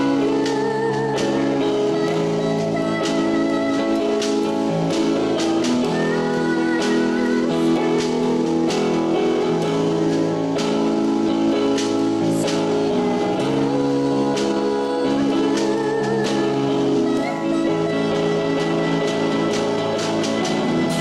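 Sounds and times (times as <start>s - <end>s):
live band music with guitar: 0.0s - 21.0s.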